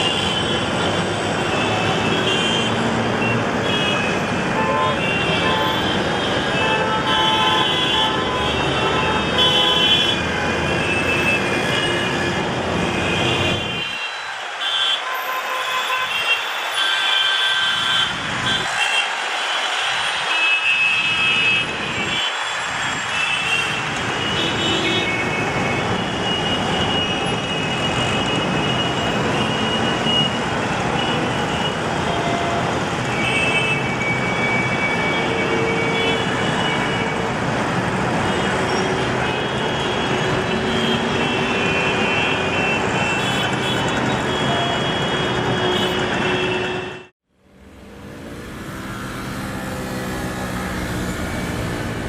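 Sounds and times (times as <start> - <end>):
street traffic: 0.0 - 52.0.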